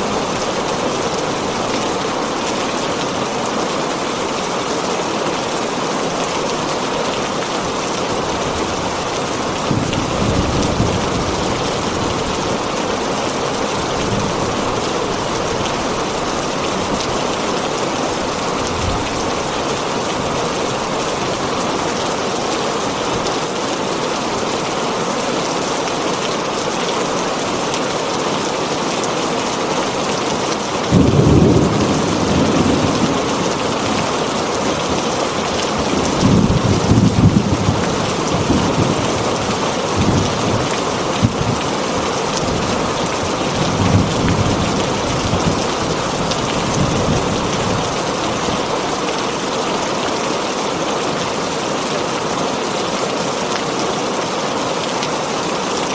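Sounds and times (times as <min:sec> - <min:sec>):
heavy rain on a tin roof: 0:00.0 - 0:55.9.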